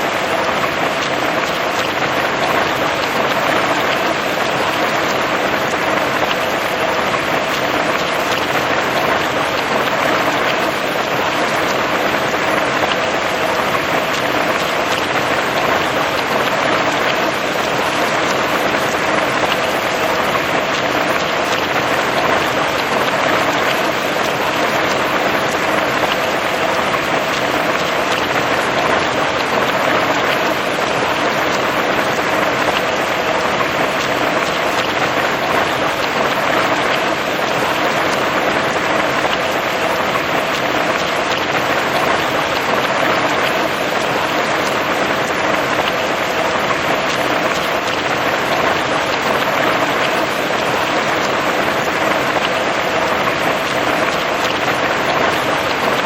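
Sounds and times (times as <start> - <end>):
raindrops ticking: 0.0 - 56.0
steady rain hissing: 0.0 - 56.0.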